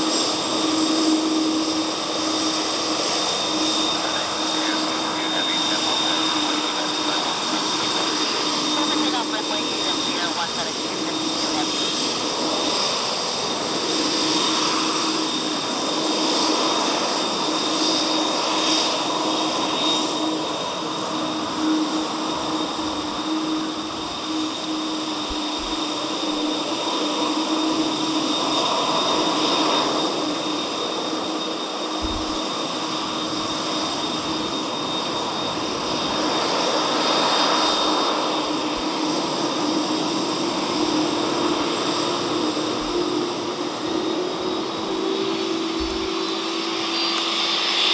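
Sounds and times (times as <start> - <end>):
jet engines whining at taxi power: 0.0 - 47.9.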